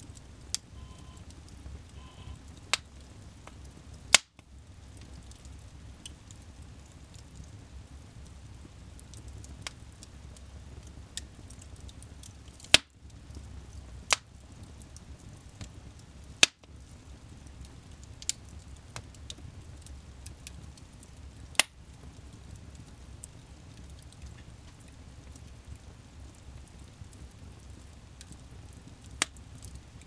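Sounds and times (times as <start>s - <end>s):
fire rumbling: 0.0s - 30.0s
wood crackling: 0.0s - 30.0s
sharp pops of burning wood: 0.1s - 7.5s, 8.2s - 30.0s.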